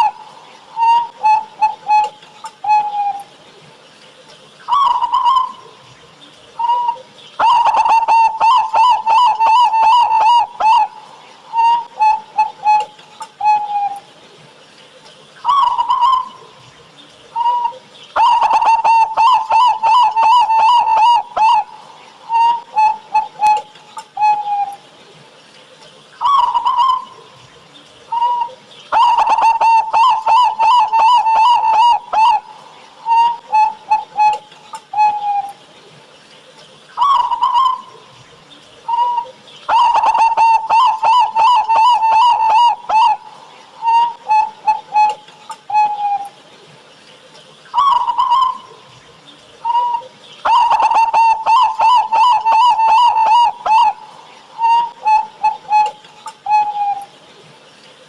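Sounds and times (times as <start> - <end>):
dove cooing song: 0.0 - 58.0.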